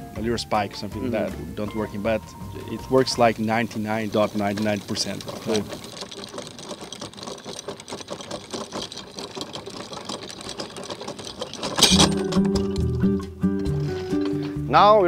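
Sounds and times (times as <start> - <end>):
anchor chain clattering: 1.1 - 14.9.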